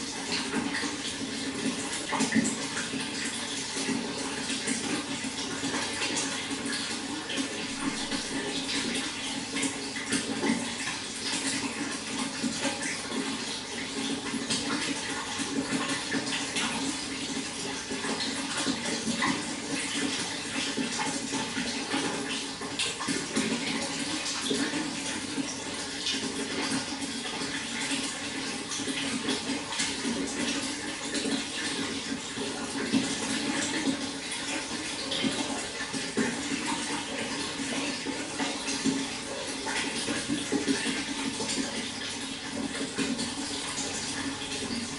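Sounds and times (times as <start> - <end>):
running water splashing and gurgling: 0.0 - 44.9.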